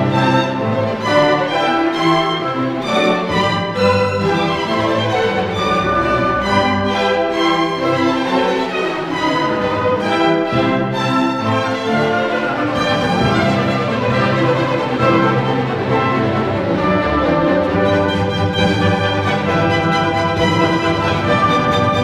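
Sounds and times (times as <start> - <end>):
orchestral strings melody: 0.0 - 22.0.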